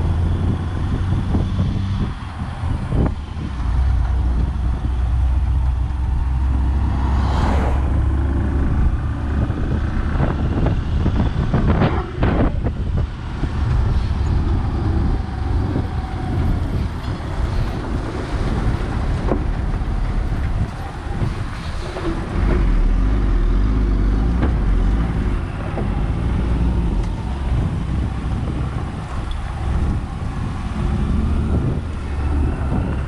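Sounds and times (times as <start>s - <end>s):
truck engine rumble: 0.0s - 33.0s
wind: 0.0s - 33.0s.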